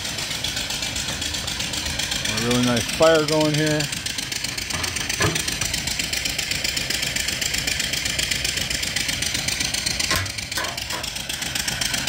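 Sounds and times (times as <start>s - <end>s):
engine knock: 0.0s - 12.0s
steam engine running: 0.0s - 12.0s.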